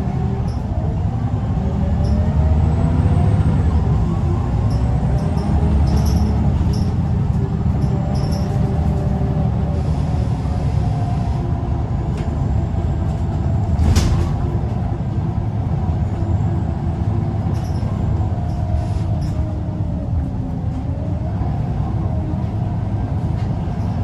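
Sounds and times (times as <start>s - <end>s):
bus diesel engine rumbling: 0.0s - 24.0s.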